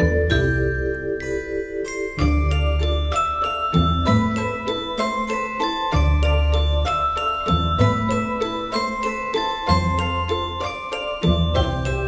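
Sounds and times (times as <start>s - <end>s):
melody of struck ringing notes: 0.0s - 12.0s.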